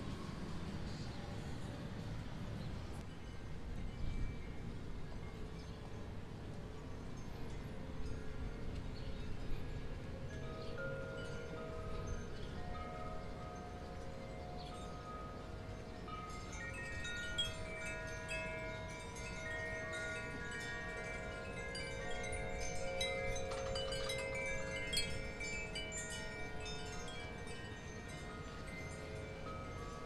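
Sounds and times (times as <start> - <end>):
wind chimes ringing: 3.0 - 30.0.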